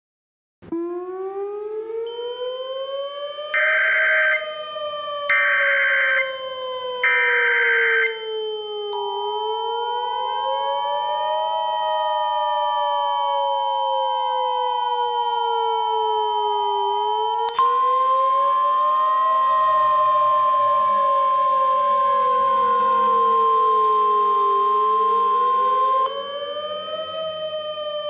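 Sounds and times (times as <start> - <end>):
wailing siren tone: 0.6 - 28.0.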